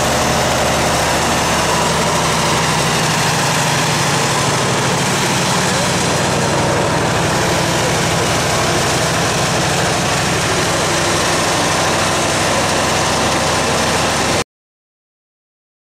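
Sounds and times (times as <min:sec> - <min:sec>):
bus diesel engine idling: 0:00.0 - 0:14.4.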